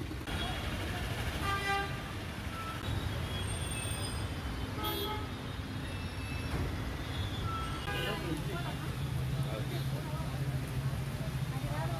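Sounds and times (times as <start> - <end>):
traffic engine rumble: 0.0 - 11.9.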